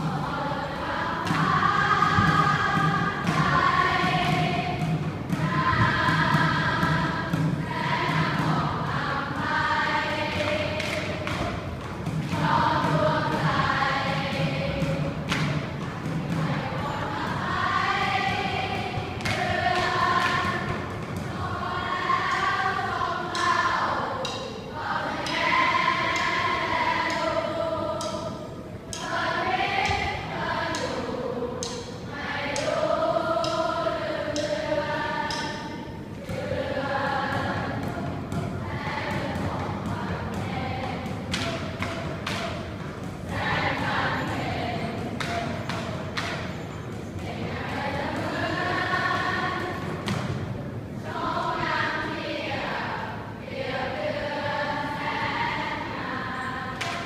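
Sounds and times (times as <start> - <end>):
sharp percussive hits: 0.0 - 32.8, 33.4 - 50.7
group singing long notes: 0.0 - 57.0.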